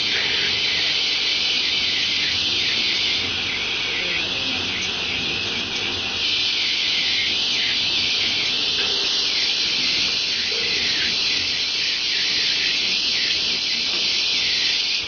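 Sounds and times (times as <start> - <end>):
pneumatic machine hissing: 0.0 - 15.0.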